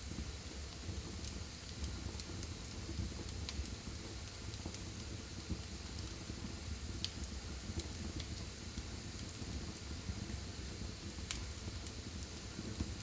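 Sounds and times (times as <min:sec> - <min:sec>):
fire crackling and popping: 0:00.1 - 0:13.0.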